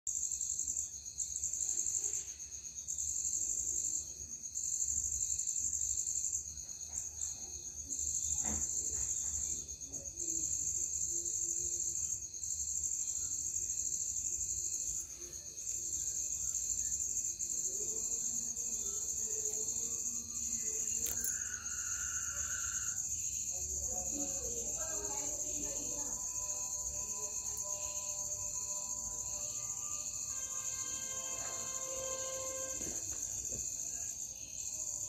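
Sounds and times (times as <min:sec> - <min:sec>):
crickets trilling: 0:00.1 - 0:35.0.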